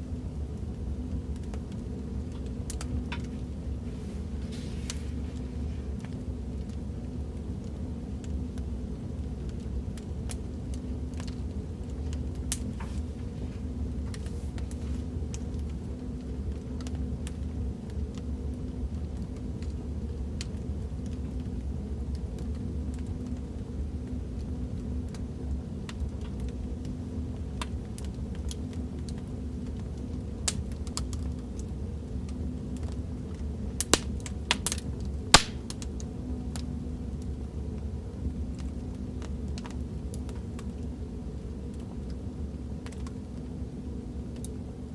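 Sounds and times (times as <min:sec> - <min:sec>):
fire low rumble: 0:00.0 - 0:44.9
fire popping and crackling: 0:00.5 - 0:37.4.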